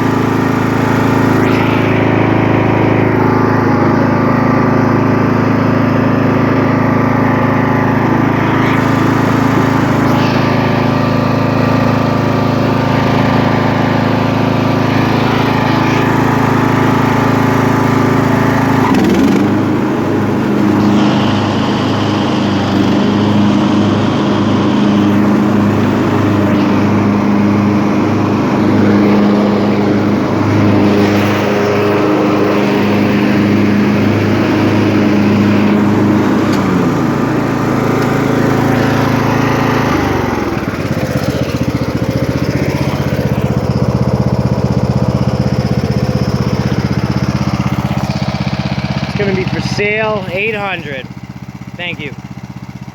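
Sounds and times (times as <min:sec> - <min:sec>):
lawn tractor engine running: 0:00.0 - 0:52.9.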